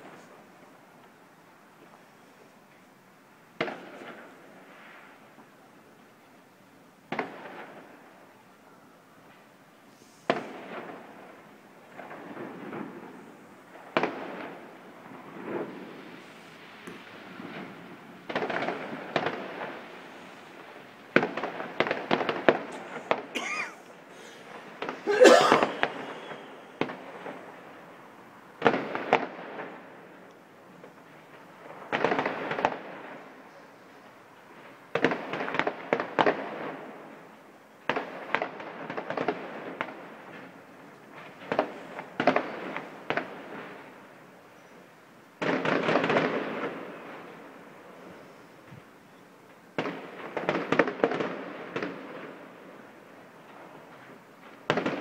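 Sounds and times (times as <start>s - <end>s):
distant fireworks bursts and crackling: 0.0s - 55.0s.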